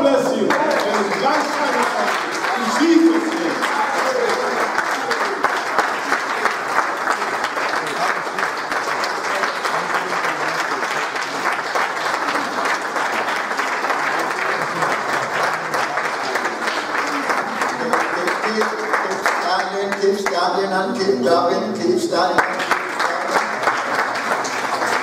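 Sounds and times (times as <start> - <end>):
crowd clapping: 0.0 - 25.0.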